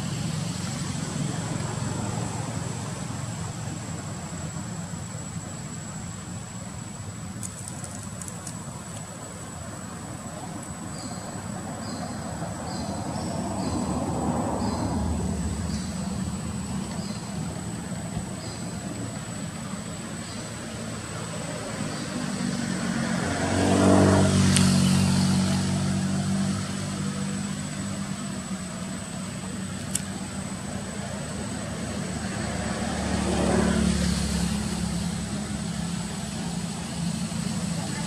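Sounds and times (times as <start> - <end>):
vehicles passing by: 0.0 - 38.0.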